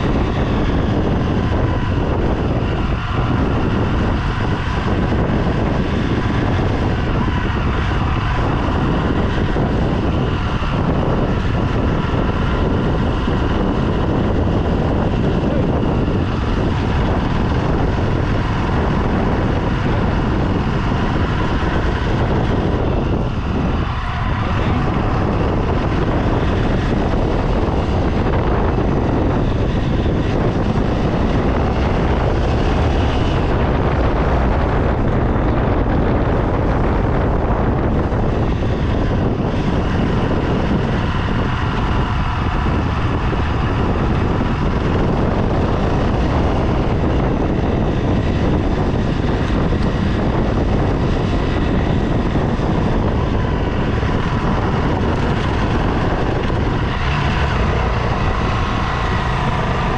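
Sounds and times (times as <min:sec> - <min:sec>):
rushing noise: 0:00.0 - 0:59.9
vehicle engine running: 0:00.0 - 0:59.9.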